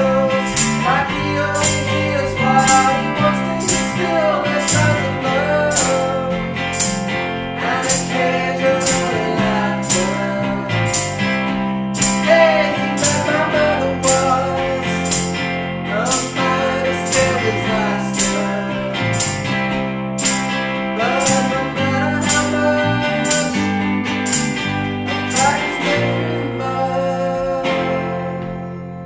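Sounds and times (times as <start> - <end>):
tambourine struck: 0.0 - 26.0
bass guitar: 0.0 - 29.0
electric guitar: 0.0 - 29.0.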